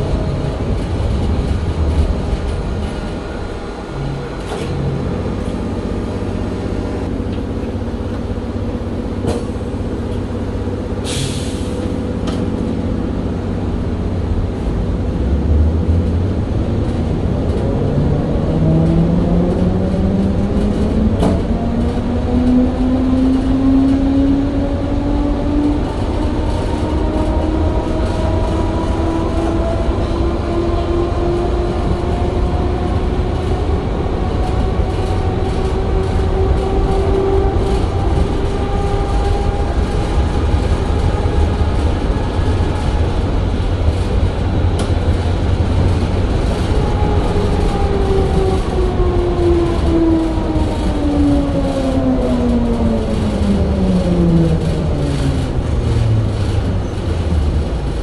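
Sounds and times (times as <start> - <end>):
tram traction drive whining: 0.0 - 58.0
wheels rumbling on rails: 0.0 - 58.0.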